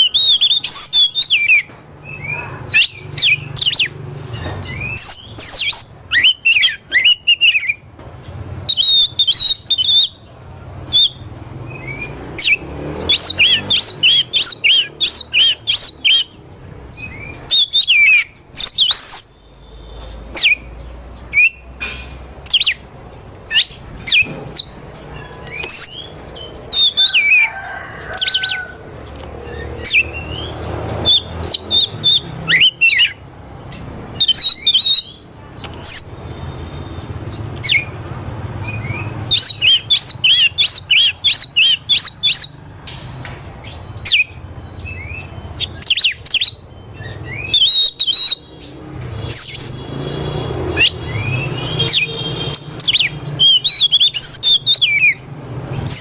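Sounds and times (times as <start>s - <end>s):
bird singing whistled notes: 0.0s - 7.9s, 8.6s - 21.8s, 22.4s - 28.7s, 29.4s - 38.0s, 38.6s - 42.7s, 43.6s - 56.0s.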